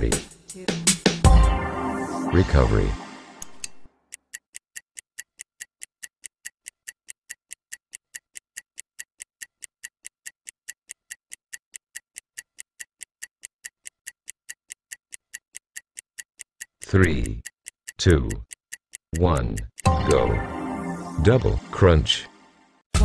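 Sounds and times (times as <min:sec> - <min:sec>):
clock-like timer ticking: 0:01.3 - 0:22.2.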